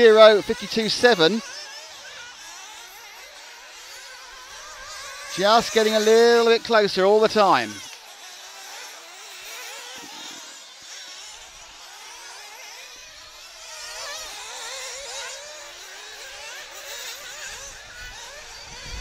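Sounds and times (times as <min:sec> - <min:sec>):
model car engines whining: 0:00.0 - 0:19.0.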